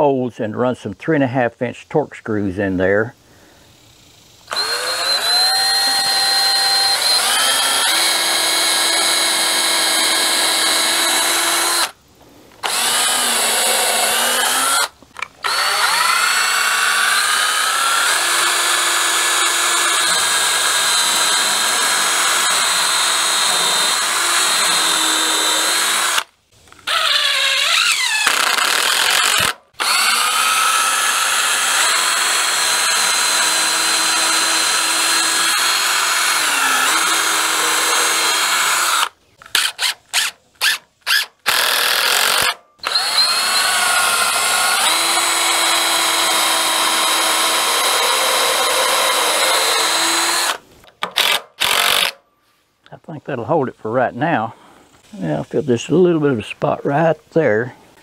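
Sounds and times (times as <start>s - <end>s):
cordless drill boring into wood: 4.4s - 12.0s, 12.6s - 52.2s.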